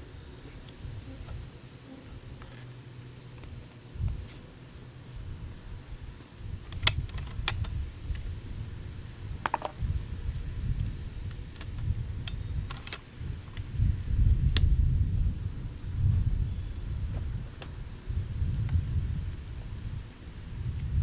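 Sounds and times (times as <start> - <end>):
wind on microphone: 0.0 - 2.5, 3.4 - 4.3, 5.2 - 21.0.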